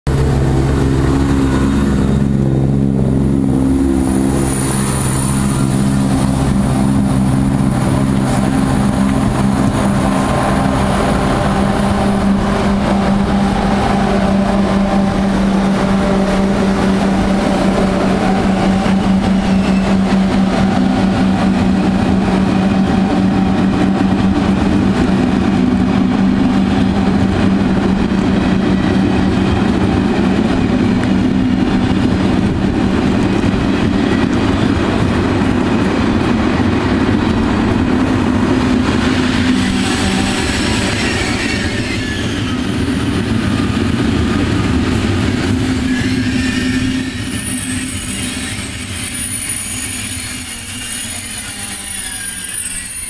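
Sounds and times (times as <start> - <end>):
train wheels rumbling on rail: 0.1 - 53.0.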